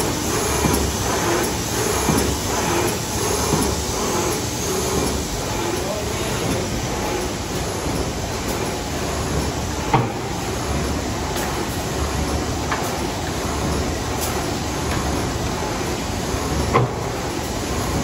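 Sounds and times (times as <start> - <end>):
printing machine running: 0.0 - 18.0.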